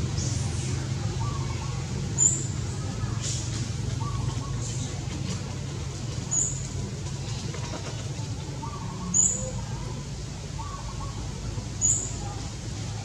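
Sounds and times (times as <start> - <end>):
faint bird-like calls: 0.0 - 5.4, 6.3 - 13.0.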